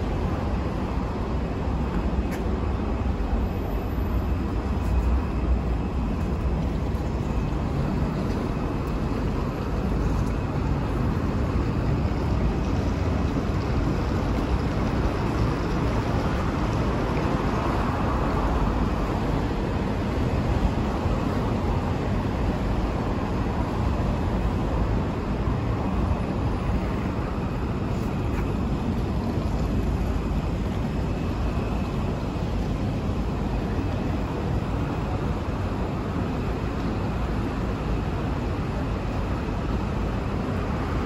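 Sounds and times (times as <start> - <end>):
low urban background rumble: 0.0 - 41.0.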